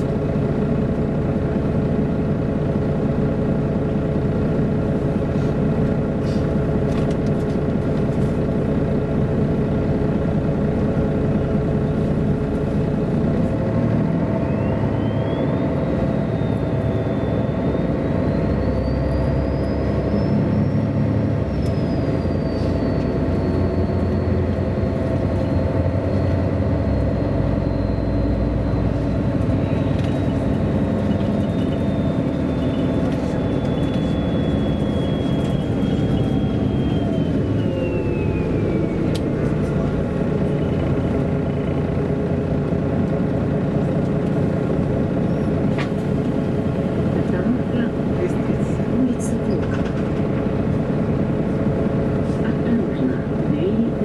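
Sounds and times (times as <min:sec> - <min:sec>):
bus engine running: 0:00.0 - 0:54.0
high drivetrain whine: 0:00.0 - 0:54.0.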